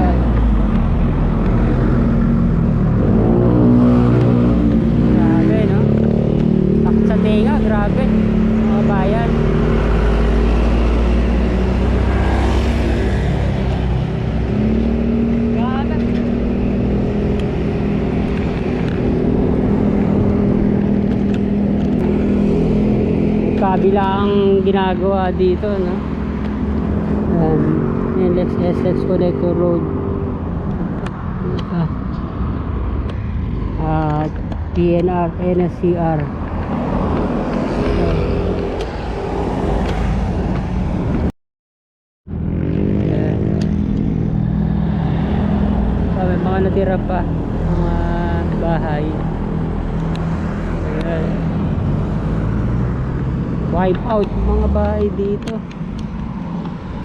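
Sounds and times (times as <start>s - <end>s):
steady engine drone: 0.0s - 41.3s, 42.3s - 57.0s
street traffic noise: 0.0s - 41.3s, 42.3s - 57.0s.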